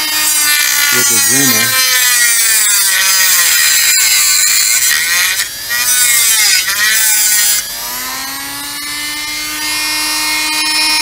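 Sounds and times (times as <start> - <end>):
rotary tool whining cutting plastic: 0.0 - 11.0.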